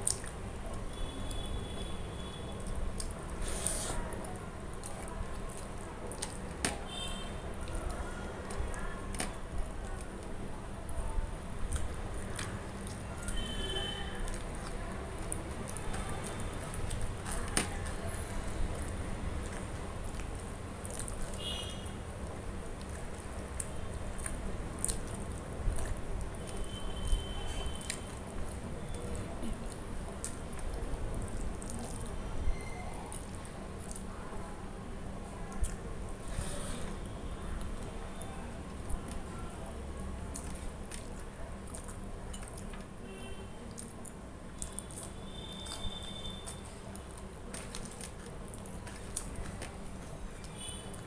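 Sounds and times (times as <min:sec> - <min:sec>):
fingers squishing rice: 0:00.0 - 0:34.8, 0:35.5 - 0:51.0
crunching raw onion: 0:00.0 - 0:51.0.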